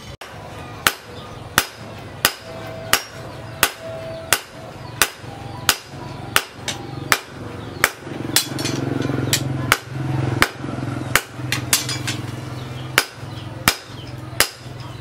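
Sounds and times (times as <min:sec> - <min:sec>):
hammer striking blade on anvil: 0:00.2 - 0:12.3, 0:13.0 - 0:15.0.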